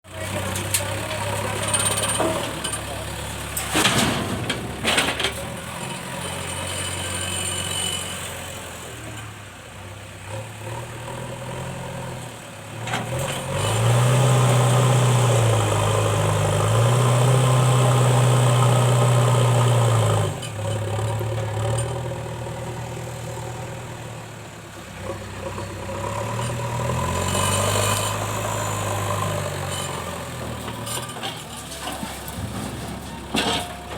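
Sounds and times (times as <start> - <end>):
backhoe diesel engine revving: 0.1 - 33.9.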